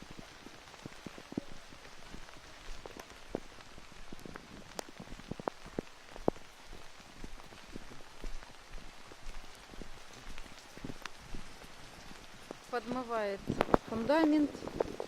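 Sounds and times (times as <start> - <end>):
heavy rain falling: 0.0 - 15.0
raindrops splattering: 0.0 - 15.0.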